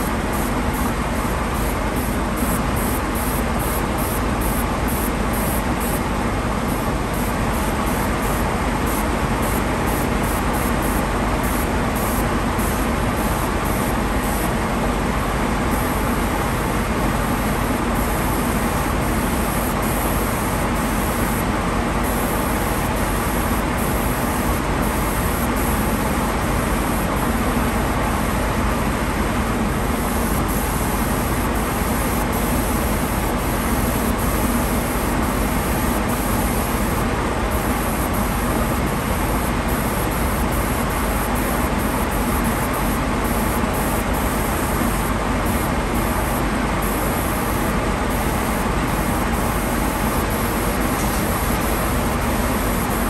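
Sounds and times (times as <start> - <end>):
spray gun hissing: 0.0 - 14.6, 15.7 - 28.2, 29.8 - 53.0
constant low hum: 0.0 - 53.0.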